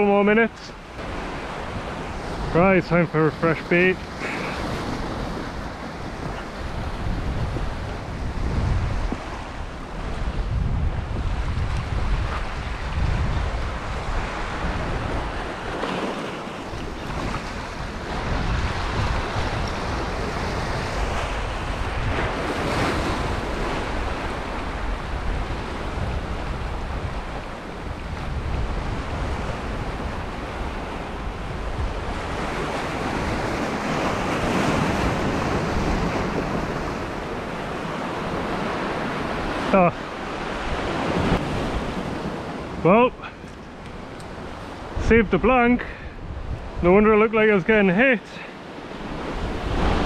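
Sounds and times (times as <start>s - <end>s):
sea swell washing over boulders: 0.0s - 50.0s
wind buffeting microphone: 4.0s - 47.2s, 48.7s - 50.0s.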